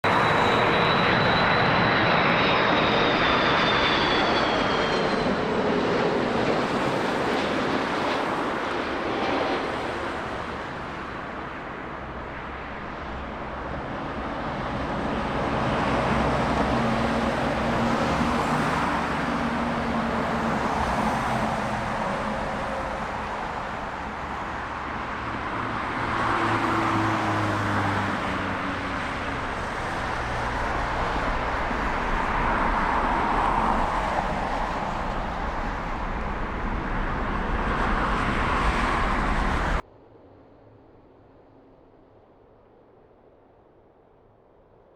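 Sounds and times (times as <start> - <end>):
jet airliner engines passing: 0.0 - 44.9.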